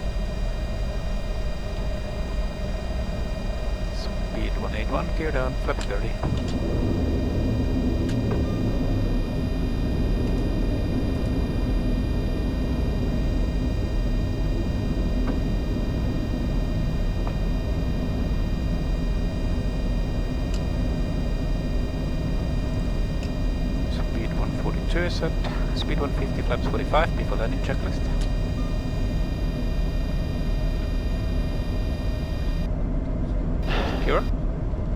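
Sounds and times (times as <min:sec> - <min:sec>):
airflow and jet engine rumble: 0:00.0 - 0:34.9.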